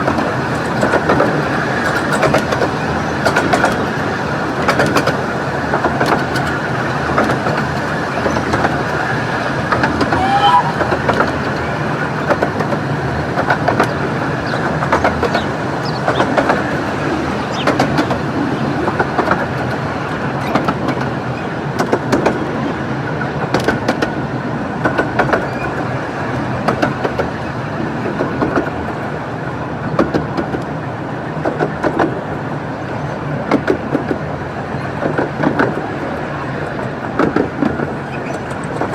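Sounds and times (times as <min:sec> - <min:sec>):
miniature train rumbling: 0:00.0 - 0:38.9
wheels clicking over rail joints: 0:00.0 - 0:38.9.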